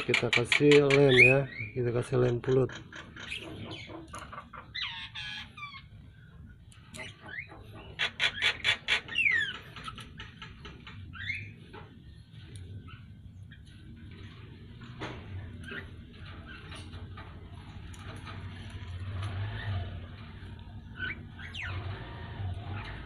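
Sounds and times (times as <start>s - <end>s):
bird calls: 0.0s - 17.2s, 19.5s - 23.0s.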